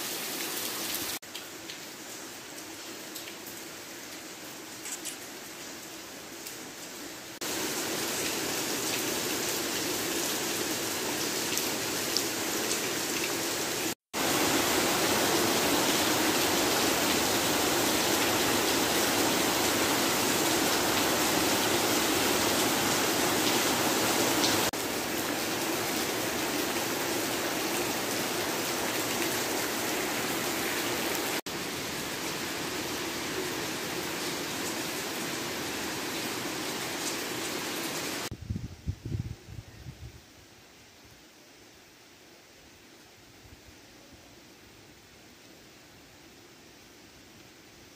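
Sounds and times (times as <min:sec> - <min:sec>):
rain falling on foliage: 0:00.0 - 0:38.4.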